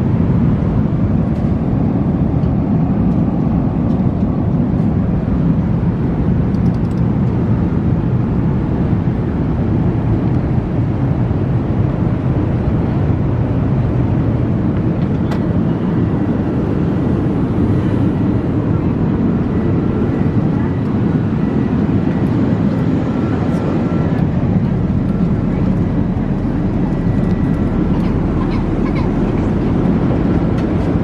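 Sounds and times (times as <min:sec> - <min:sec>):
airplane cabin engine noise: 0:00.0 - 0:31.0.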